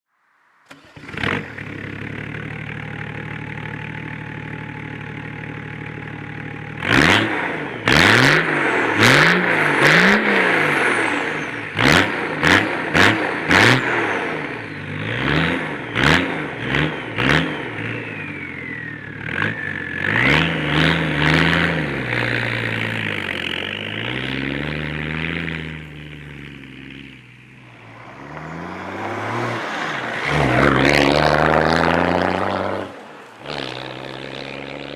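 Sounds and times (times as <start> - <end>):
diesel engine idling and revving: 0.3 - 34.9.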